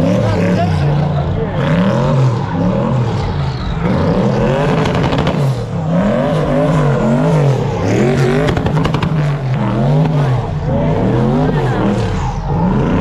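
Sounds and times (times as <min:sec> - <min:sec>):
car engine revving: 0:00.0 - 0:13.0
engine crackle: 0:00.0 - 0:13.0.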